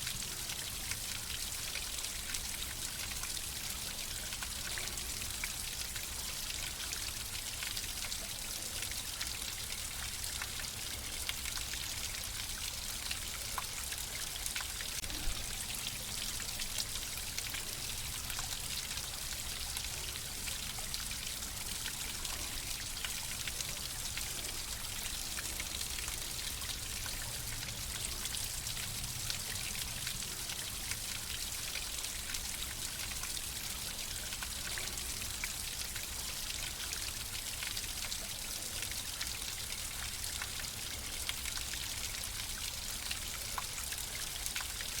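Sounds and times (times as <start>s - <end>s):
water trickling and splashing: 0.0s - 45.0s.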